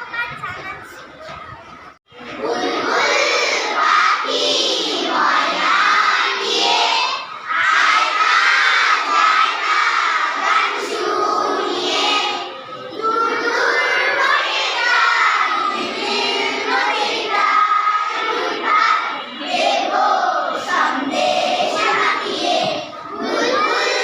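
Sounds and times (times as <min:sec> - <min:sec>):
children singing and shouting: 0:00.0 - 0:24.0.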